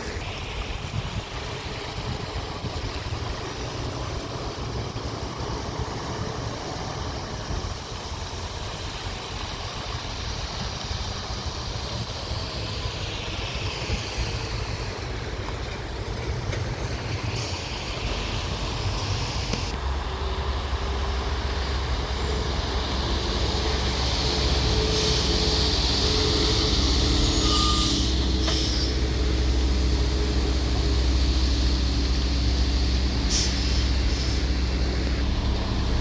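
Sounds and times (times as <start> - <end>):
hiss: 0.0 - 36.0
truck engine rumbling: 0.0 - 36.0.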